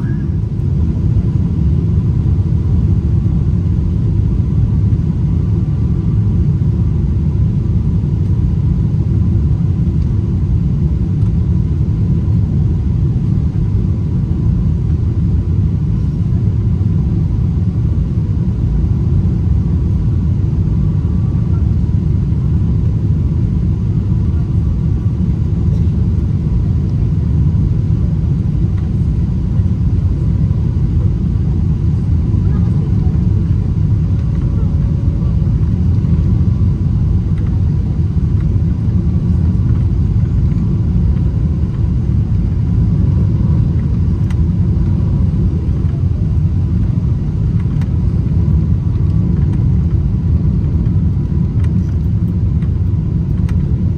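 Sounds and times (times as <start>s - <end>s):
jet engines rumbling: 0.0s - 53.9s
airflow over wing flaps: 9.7s - 53.9s.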